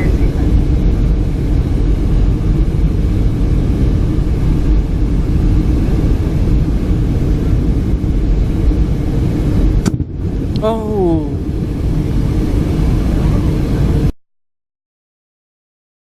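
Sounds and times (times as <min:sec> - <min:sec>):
jet engines rumbling: 0:00.0 - 0:14.2
rushing airflow: 0:00.0 - 0:14.2.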